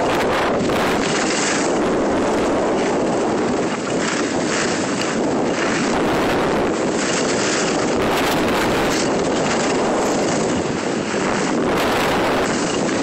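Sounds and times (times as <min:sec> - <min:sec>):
skis scraping on snow: 0:00.0 - 0:13.0
wind on microphone: 0:00.0 - 0:13.0.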